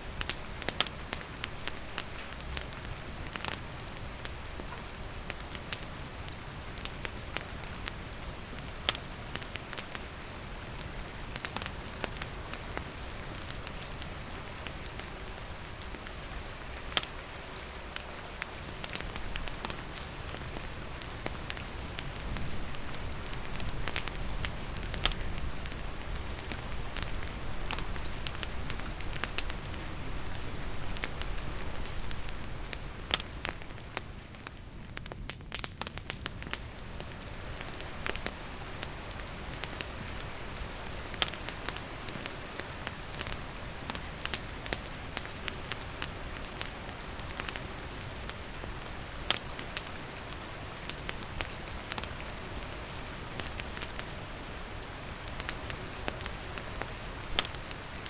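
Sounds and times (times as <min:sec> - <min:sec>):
campfire crackling and popping: 0:00.0 - 0:58.0
rain on leaves and wooden roof: 0:00.0 - 0:58.0.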